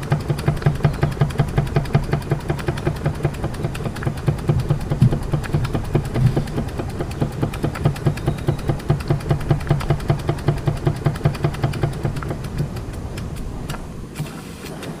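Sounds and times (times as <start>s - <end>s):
toy steam engine chuffing: 0.0s - 15.0s.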